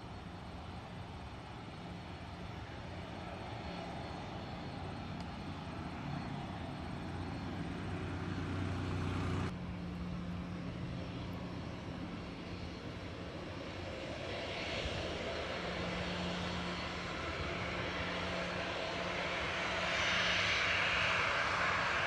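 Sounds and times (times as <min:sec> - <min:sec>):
aircraft engines humming: 0:00.0 - 0:22.0.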